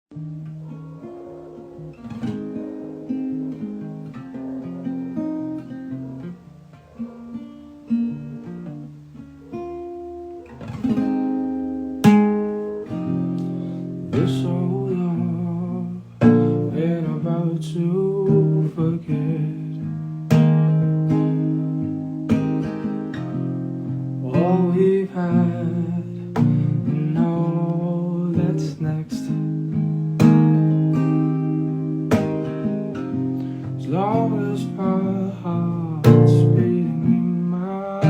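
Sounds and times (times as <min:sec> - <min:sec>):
acoustic guitar picking and strumming: 0:00.1 - 0:38.0.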